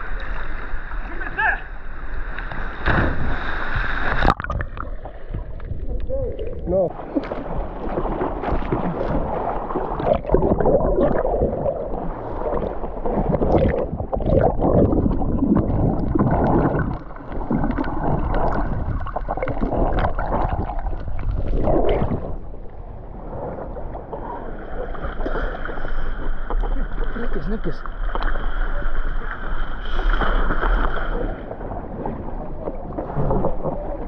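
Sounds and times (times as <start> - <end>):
water splashing and sloshing: 0.0 - 34.0.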